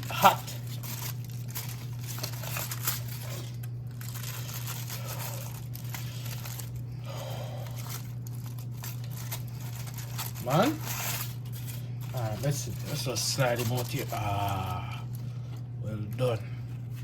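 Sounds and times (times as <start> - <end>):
steady low hum: 0.0 - 17.0
wrapping crinkling and tearing: 0.0 - 17.0.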